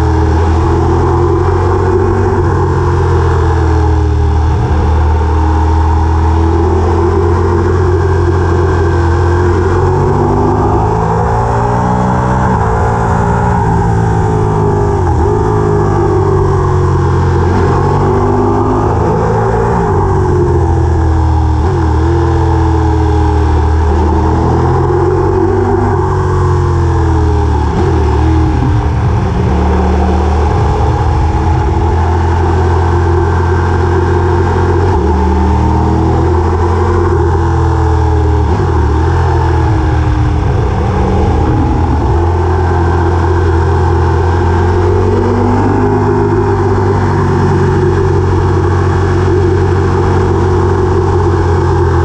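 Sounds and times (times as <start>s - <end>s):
vehicle engine running loudly: 0.0s - 52.0s.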